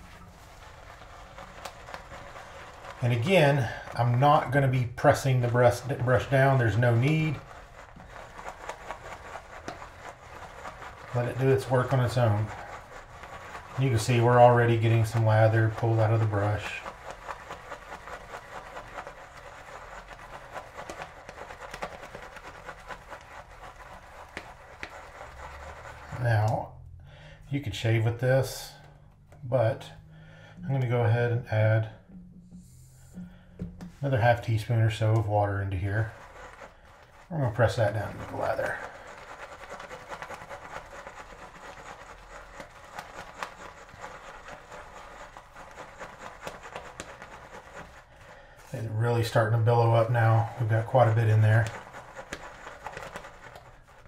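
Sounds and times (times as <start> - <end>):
shave brush swishing lather: 0.0 - 26.8, 33.9 - 54.0.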